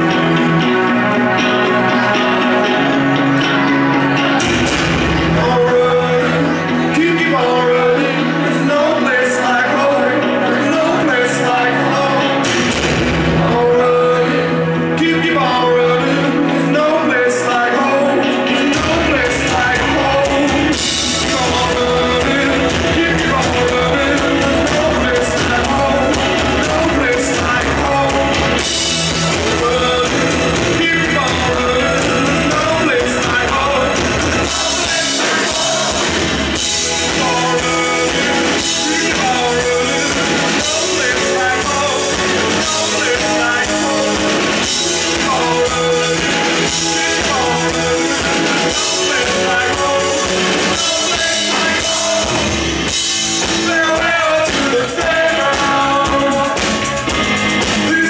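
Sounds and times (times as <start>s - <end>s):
live rock band: 0.0s - 58.0s
man singing lead vocal: 0.0s - 58.0s.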